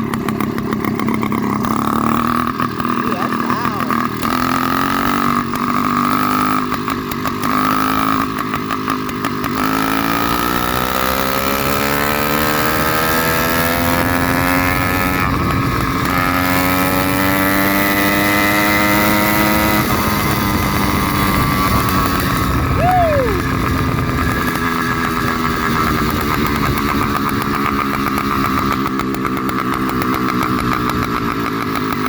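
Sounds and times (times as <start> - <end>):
two-stroke engine revving: 0.0 - 32.0.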